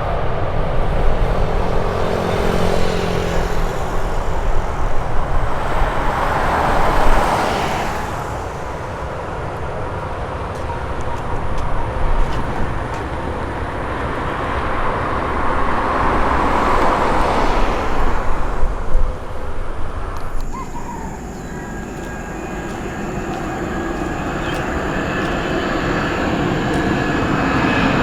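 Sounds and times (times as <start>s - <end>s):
jet engine rushing and whine: 0.0s - 28.0s.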